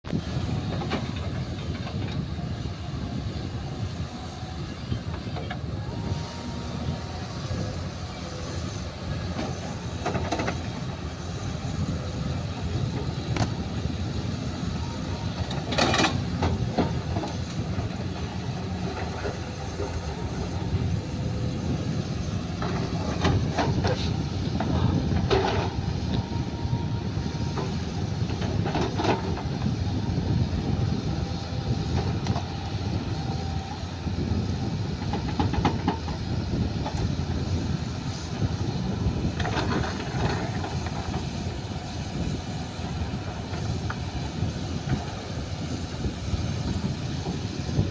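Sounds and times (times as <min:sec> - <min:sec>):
heavy equipment rumbling: 0:00.1 - 0:47.9.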